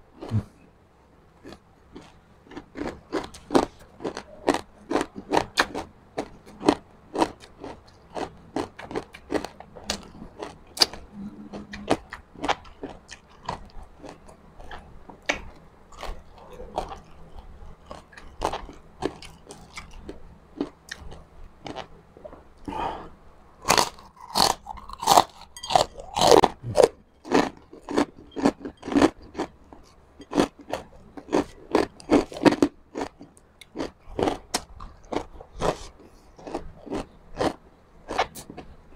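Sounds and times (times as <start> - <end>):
crunching crispy pork rinds: 1.4 - 21.9, 23.6 - 29.6, 30.2 - 38.6.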